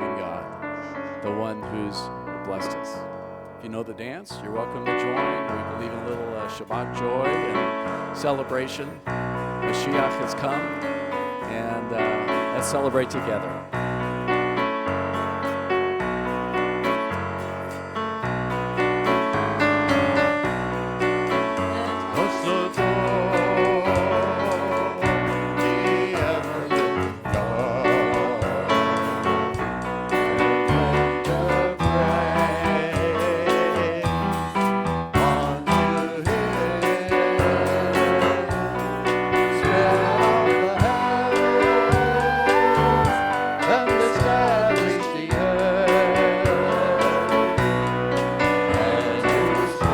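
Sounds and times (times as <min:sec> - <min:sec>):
upbeat worship music: 0:00.0 - 0:49.9
person singing: 0:03.6 - 0:13.7, 0:19.0 - 0:49.9.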